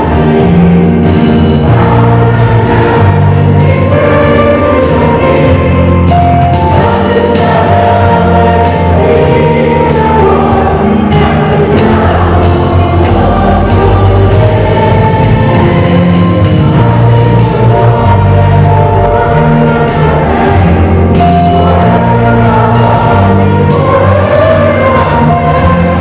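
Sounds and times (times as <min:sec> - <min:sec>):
choir and congregation singing hymn: 0:00.0 - 0:26.0
instruments and percussion: 0:00.0 - 0:26.0.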